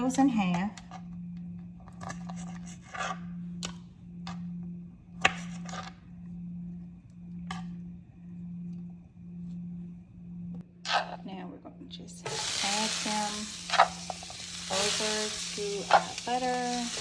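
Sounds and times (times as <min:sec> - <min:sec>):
pulsing low hum: 0:00.0 - 0:17.0.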